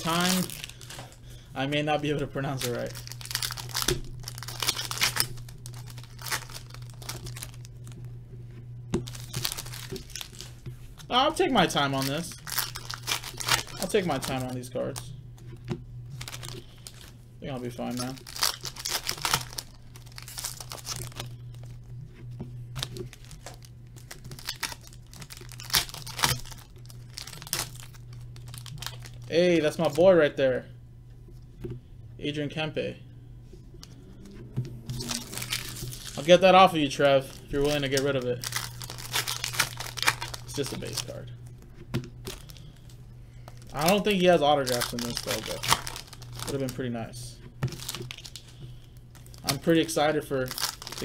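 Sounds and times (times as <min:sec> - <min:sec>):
wrapper crinkling and tearing: 0:00.0 - 0:01.2, 0:01.9 - 0:08.0, 0:09.0 - 0:15.1, 0:16.1 - 0:21.9, 0:22.8 - 0:30.0, 0:34.9 - 0:41.6, 0:42.2 - 0:46.9, 0:47.6 - 0:51.0
handling of cards: 0:00.0 - 0:08.2, 0:09.0 - 0:30.1, 0:33.5 - 0:51.0
steady low hum: 0:00.0 - 0:51.0.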